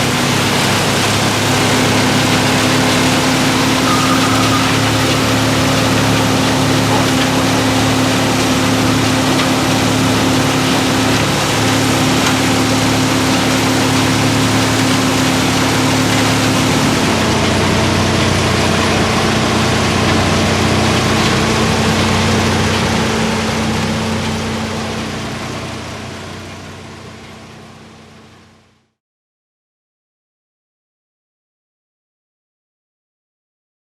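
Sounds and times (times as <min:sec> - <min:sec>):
heavy equipment engine running: 0:00.0 - 0:28.7.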